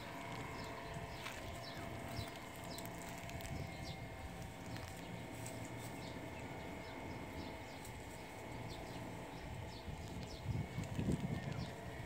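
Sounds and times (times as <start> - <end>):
outdoor ambience: 0.0 - 12.0
small birds chirping: 0.0 - 12.0.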